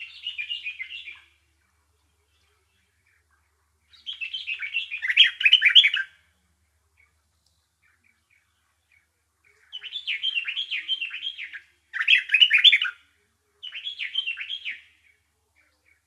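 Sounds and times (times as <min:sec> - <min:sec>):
songbird chattering: 0:00.0 - 0:06.2, 0:06.9 - 0:16.0.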